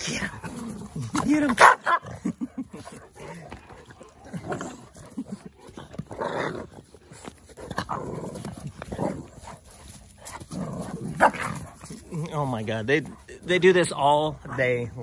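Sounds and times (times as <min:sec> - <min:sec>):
dogs growling: 0:00.0 - 0:15.0.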